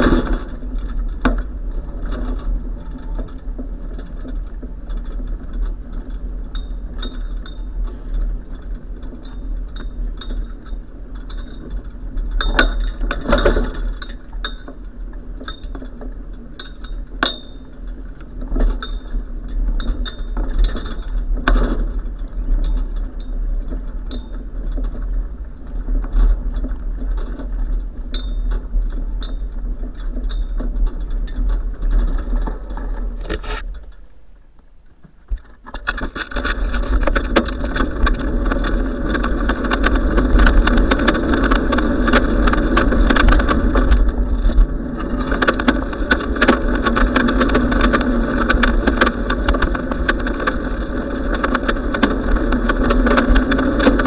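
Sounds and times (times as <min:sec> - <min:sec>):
bike rattling and clinking: 0:00.0 - 0:54.0
wind and road rumble: 0:00.0 - 0:54.0.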